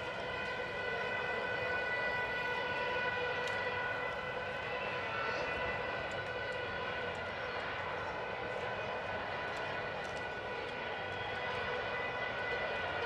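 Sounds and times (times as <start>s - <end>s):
crowd noise: 0.0s - 13.0s.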